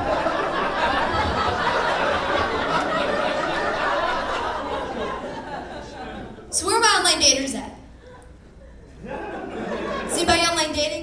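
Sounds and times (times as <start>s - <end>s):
audience laughing: 0.0s - 6.5s, 7.9s - 10.4s.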